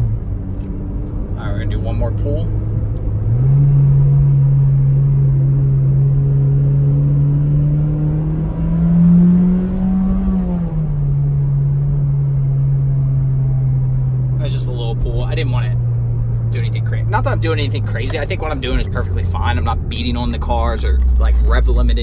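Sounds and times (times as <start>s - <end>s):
car engine drone: 0.0s - 22.0s.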